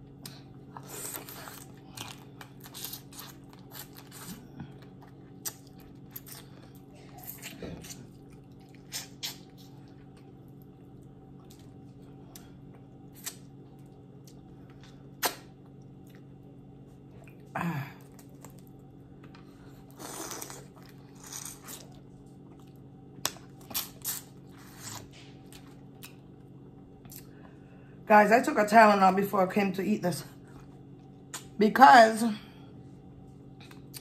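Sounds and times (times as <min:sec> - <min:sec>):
steady low hum: 0:00.0 - 0:34.0
wet chewing: 0:00.2 - 0:27.6.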